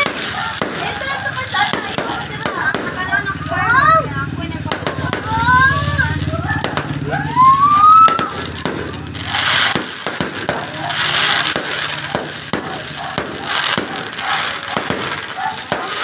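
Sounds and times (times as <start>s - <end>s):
firework crackling: 0.0s - 16.0s
firework shells bursting: 0.0s - 16.0s.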